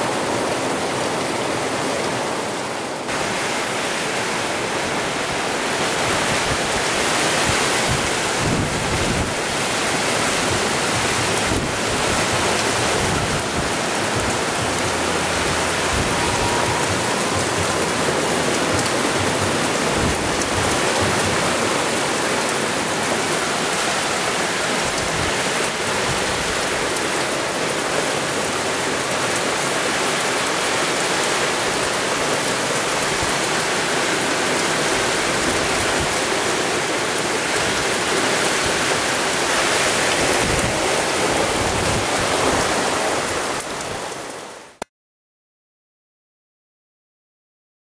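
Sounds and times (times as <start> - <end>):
low wind gusts: 0.0 - 44.7
heavy rain pouring: 0.0 - 44.9.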